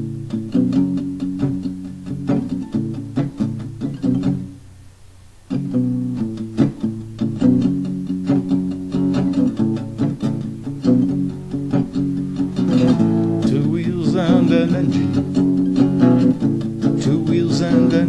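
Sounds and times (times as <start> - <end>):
instrumental rock music: 0.0 - 4.6, 5.5 - 18.0.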